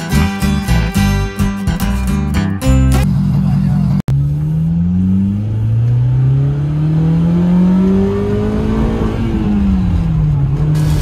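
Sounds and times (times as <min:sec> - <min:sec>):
car engine accelerating: 0:01.7 - 0:11.0.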